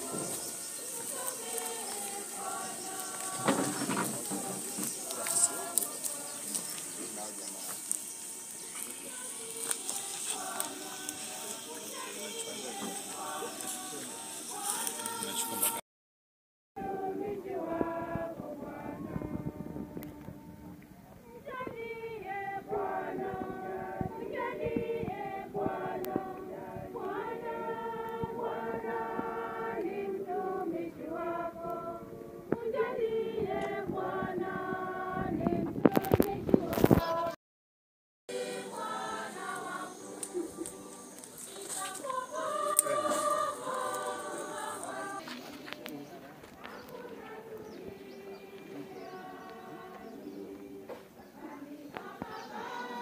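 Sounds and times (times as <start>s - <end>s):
crackling noise on microphone: 0.0s - 15.8s, 17.0s - 37.4s, 38.3s - 53.0s
group singing slow long notes: 0.0s - 15.8s, 16.8s - 37.4s, 38.3s - 53.0s.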